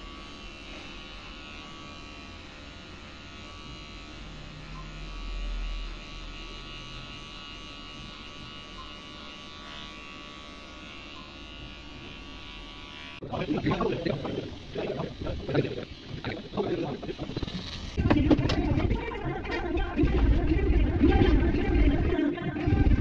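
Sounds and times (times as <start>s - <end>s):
electric hair clippers buzzing: 0.0s - 23.0s.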